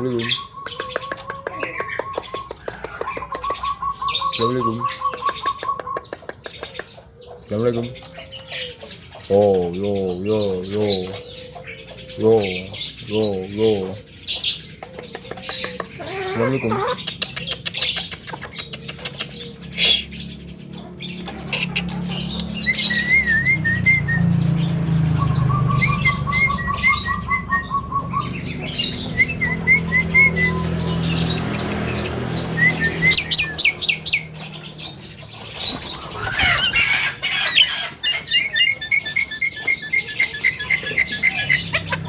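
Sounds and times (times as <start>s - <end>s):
myna chirping and chattering: 0.0s - 42.0s.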